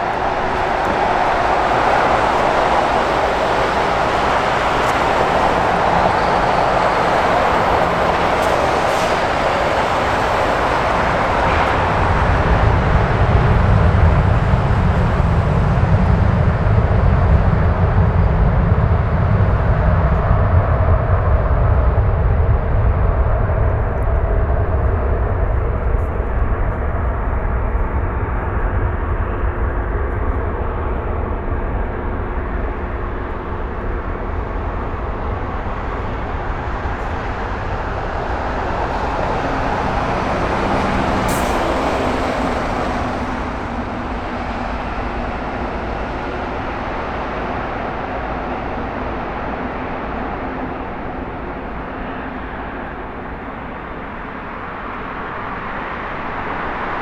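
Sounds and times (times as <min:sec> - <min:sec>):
jet airliner engines rumbling: 0:00.0 - 0:57.0.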